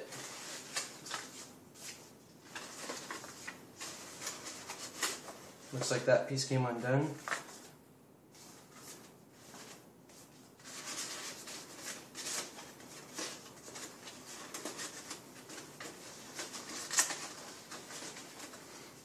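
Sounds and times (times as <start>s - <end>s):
stiff paper rustling: 0.0s - 6.0s, 8.4s - 19.0s.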